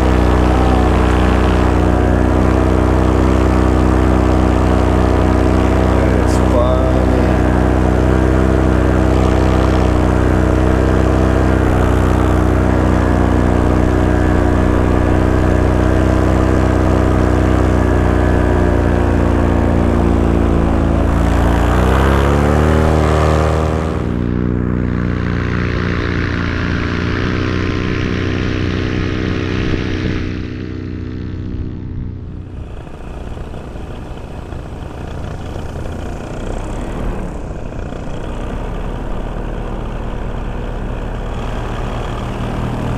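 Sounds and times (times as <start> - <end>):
paramotor engine and propeller: 0.0 - 42.9.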